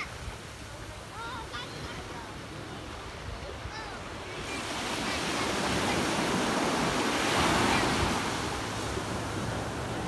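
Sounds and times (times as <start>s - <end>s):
waves breaking on a beach: 0.0s - 10.0s.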